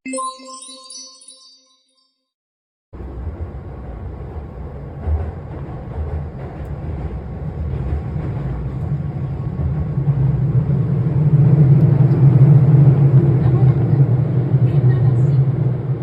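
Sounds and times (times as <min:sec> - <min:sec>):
electric train on rails: 0:03.0 - 0:16.0.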